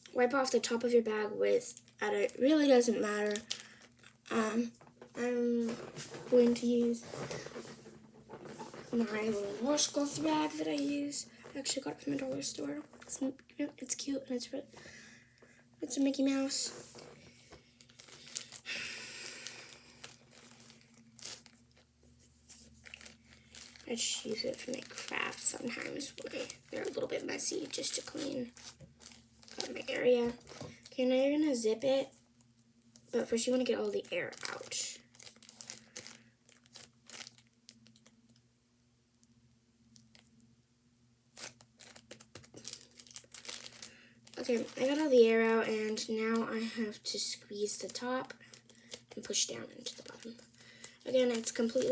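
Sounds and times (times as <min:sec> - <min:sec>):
faint steady hum: 0:00.0 - 0:51.9
plastic bag crinkling: 0:01.5 - 0:14.9, 0:15.8 - 0:32.2, 0:33.0 - 0:38.4, 0:41.3 - 0:51.9.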